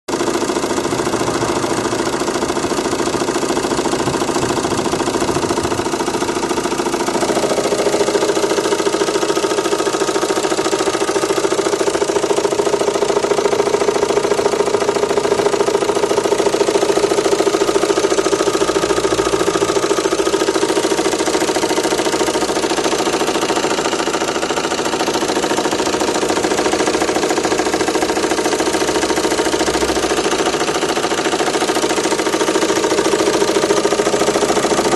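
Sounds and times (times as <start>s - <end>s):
diesel engine idling with knock: 0.1s - 34.9s.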